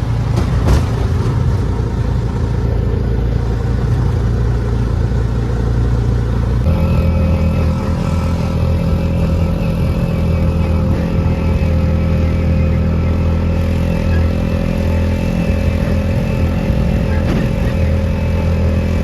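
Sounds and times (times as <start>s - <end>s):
vehicle engine and road noise: 0.0s - 19.0s
steady higher whine: 1.6s - 19.0s.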